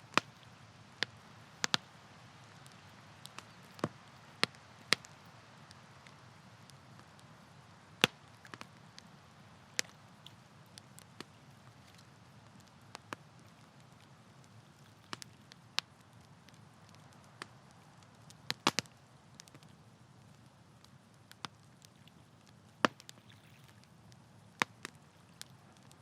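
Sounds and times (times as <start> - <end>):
campfire crackling and popping: 0.0 - 26.0
low fire hiss: 0.0 - 26.0.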